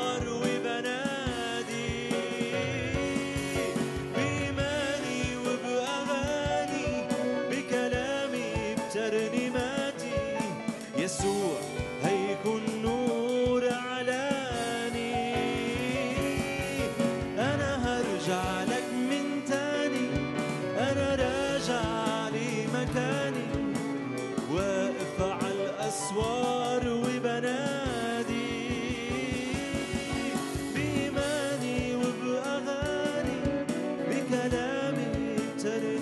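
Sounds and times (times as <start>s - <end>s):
man singing a hymn: 0.0s - 36.0s
small band with violin: 0.0s - 36.0s.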